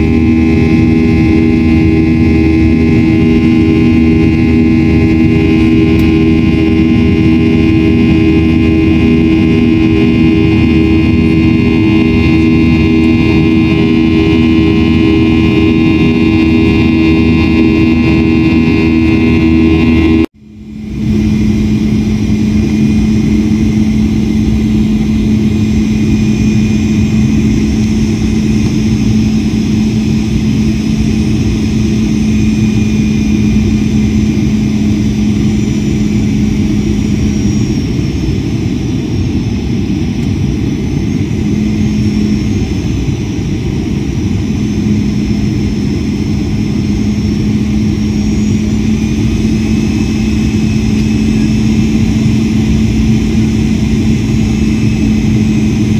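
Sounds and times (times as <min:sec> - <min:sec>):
jet engine rumble and fan whine: 0:00.0 - 0:55.9.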